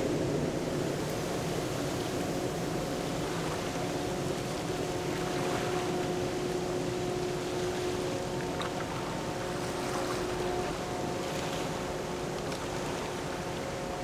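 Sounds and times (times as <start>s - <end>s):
ship machinery drone: 0.0s - 14.0s.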